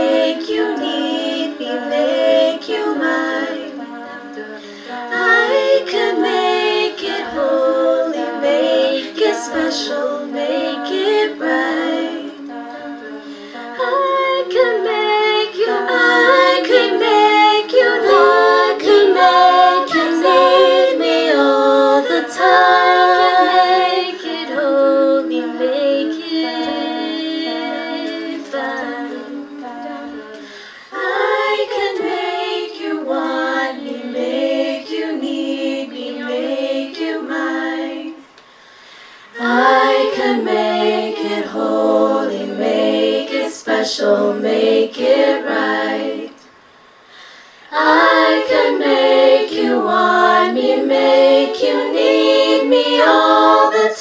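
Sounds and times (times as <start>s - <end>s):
women singing in harmony: 0.0s - 38.6s, 39.3s - 46.6s, 47.2s - 54.0s.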